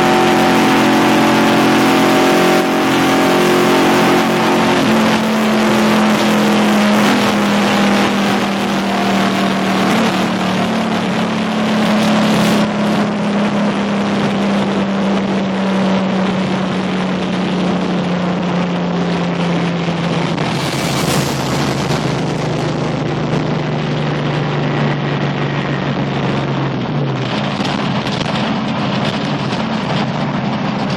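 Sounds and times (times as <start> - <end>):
race truck engine running hard: 0.0 - 30.9.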